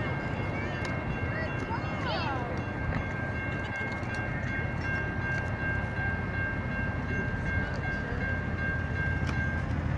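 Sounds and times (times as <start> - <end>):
steam train rumbling: 0.0 - 9.9.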